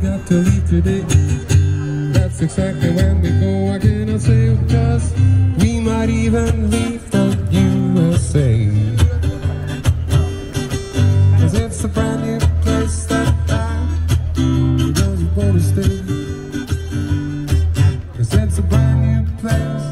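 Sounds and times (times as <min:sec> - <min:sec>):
acoustic guitar strumming: 0:00.0 - 0:19.9.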